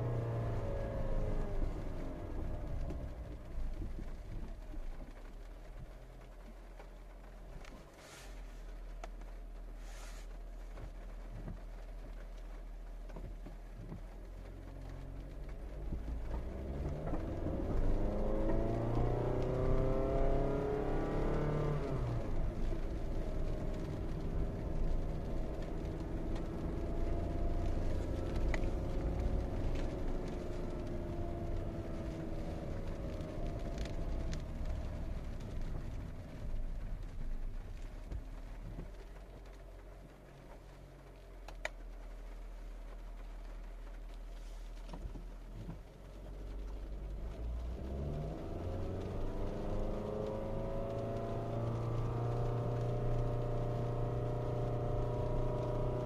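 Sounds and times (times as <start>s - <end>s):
car engine accelerating from inside: 0.0s - 56.0s.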